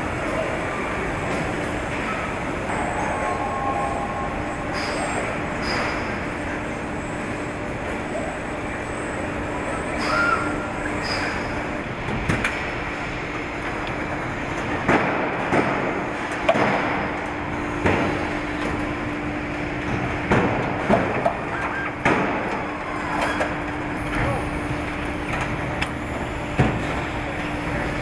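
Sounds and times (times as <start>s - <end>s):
factory din: 0.0s - 28.0s
steady machine hum: 0.0s - 28.0s.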